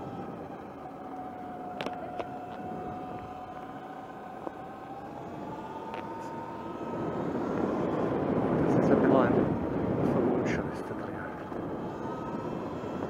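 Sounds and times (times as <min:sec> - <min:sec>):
electric motor whine: 0:00.0 - 0:10.4, 0:11.2 - 0:13.0.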